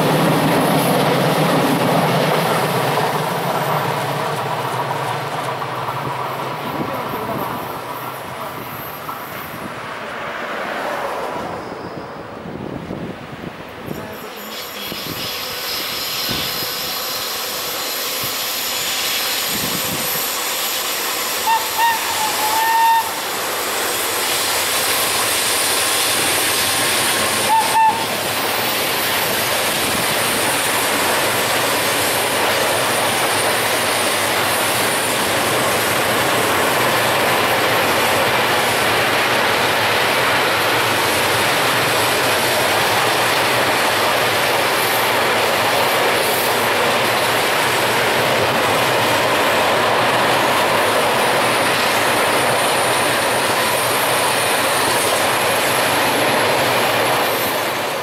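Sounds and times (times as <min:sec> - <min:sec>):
train wheels rumbling and hissing: 0:00.0 - 0:58.0.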